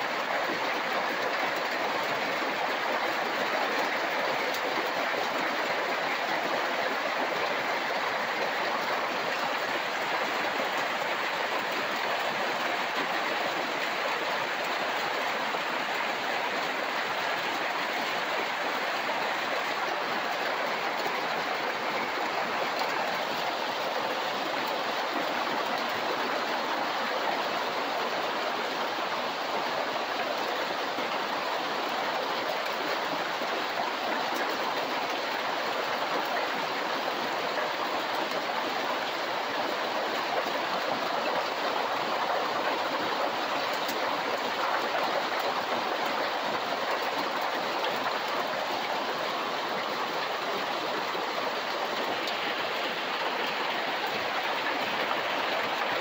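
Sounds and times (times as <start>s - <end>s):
rain on a corrugated roof: 0.0s - 56.0s.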